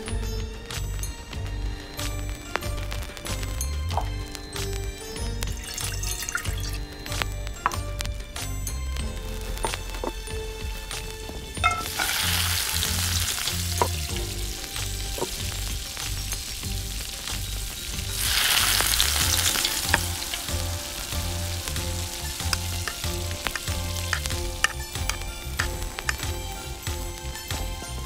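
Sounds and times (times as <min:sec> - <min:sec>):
sizzling in hot oil: 0:00.0 - 0:28.0.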